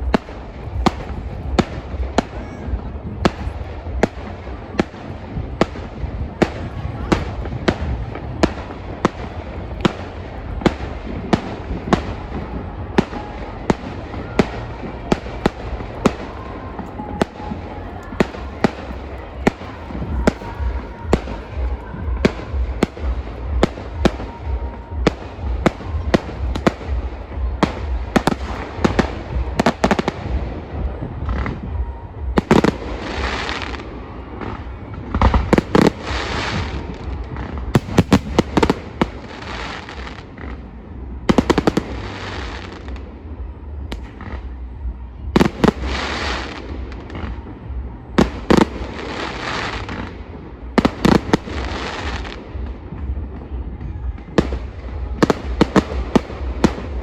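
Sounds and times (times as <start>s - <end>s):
fireworks bangs: 0.0s - 57.0s
fireworks crackling and hissing: 0.0s - 57.0s.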